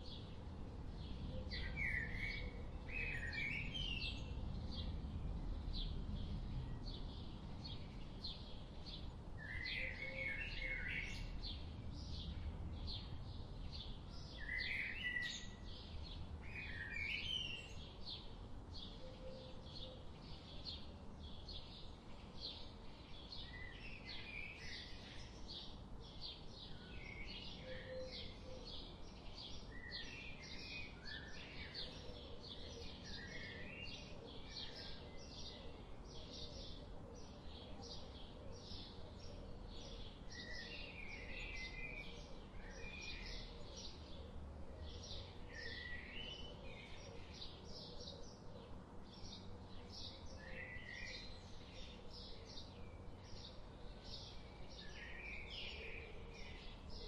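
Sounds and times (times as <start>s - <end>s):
faint background hiss: 0.0s - 57.0s.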